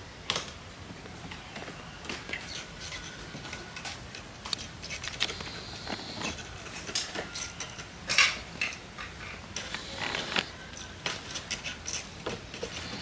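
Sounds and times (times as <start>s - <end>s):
cats scratching and rustling: 1.0s - 8.0s, 9.1s - 13.0s.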